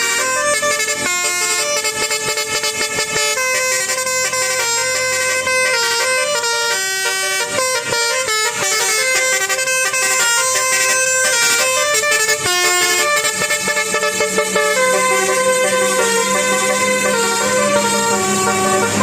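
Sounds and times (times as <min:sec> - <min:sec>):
musical air horn melody: 0:00.0 - 0:19.0.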